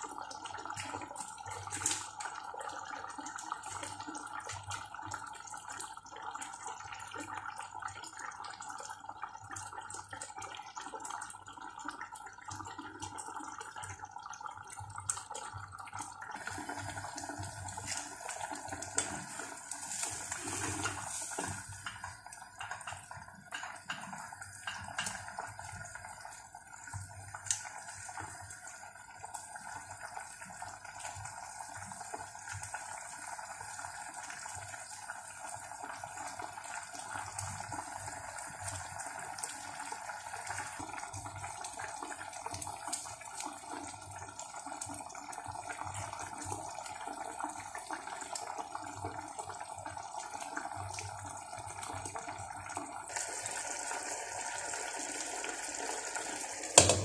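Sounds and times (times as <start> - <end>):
stew simmering and bubbling: 0.0 - 57.0.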